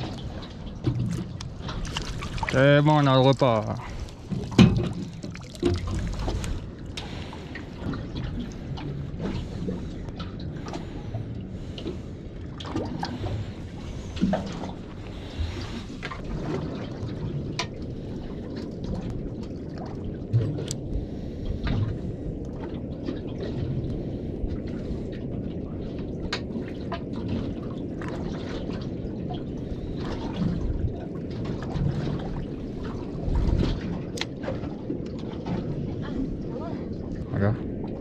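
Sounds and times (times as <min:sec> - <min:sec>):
water lapping against boat hull: 0:00.0 - 0:38.0.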